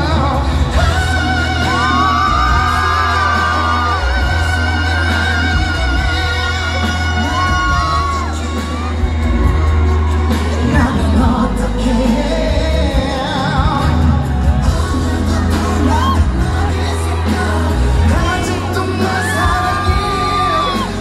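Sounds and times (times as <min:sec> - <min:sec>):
man singing: 0:00.0 - 0:21.0
pop backing track heavy bass: 0:00.0 - 0:21.0.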